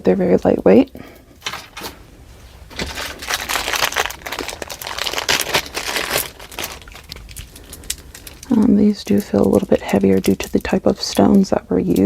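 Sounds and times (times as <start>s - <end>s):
packaging crinkling: 1.4s - 12.0s.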